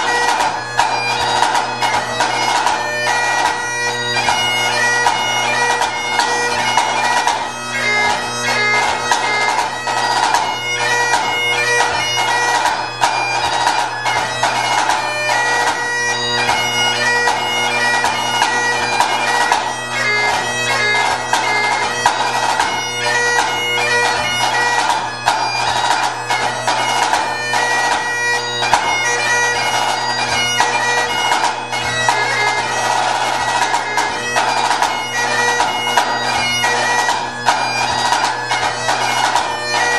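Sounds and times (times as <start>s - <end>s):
bagpipe playing over drones: 0.0s - 39.9s.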